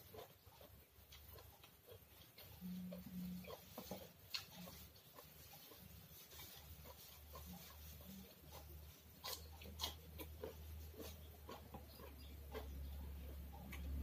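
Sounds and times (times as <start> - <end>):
person chewing with open mouth: 0.0 - 14.0
steady low hum: 0.0 - 14.0.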